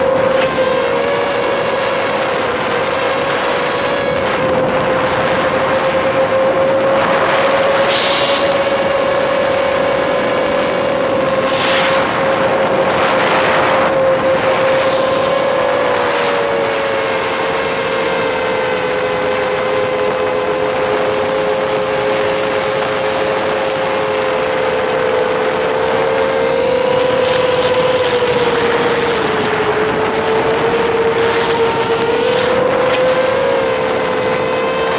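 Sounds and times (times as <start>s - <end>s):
drone motors whining: 0.0s - 34.9s
rushes of noise: 0.0s - 34.9s.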